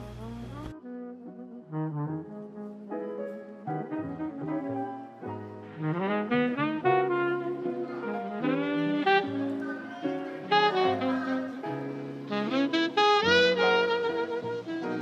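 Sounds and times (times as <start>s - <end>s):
lo-fi chill-hop music: 0.0s - 14.2s.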